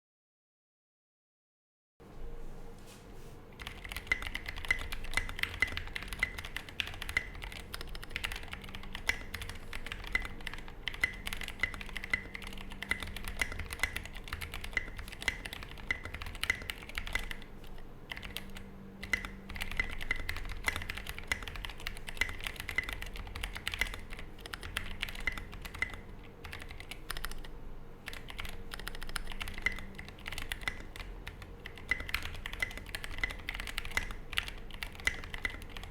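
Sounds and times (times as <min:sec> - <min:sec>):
mechanical keyboard typing: 0:03.6 - 0:35.9.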